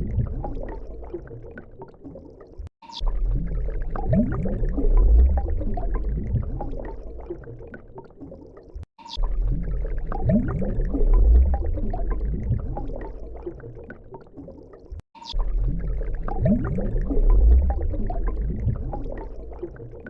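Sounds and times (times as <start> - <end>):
gurgling watery sounds with rising glides: 0.0 - 20.0.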